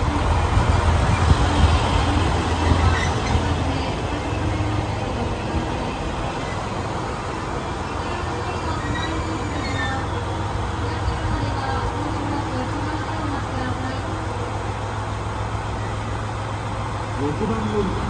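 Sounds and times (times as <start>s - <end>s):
diesel engine idling: 0.0s - 18.0s
diesel train rumbling to a stop: 0.0s - 18.0s.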